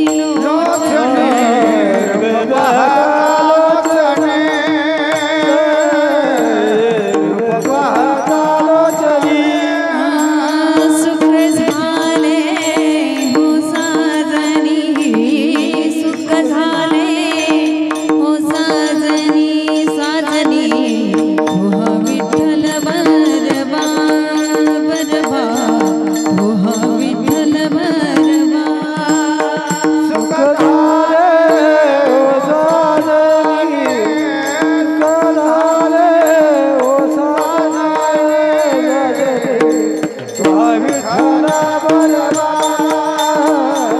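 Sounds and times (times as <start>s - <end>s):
hand drum strokes: 0.0s - 43.9s
person singing devotional song: 0.0s - 43.9s
sharp percussive hits: 0.0s - 43.9s.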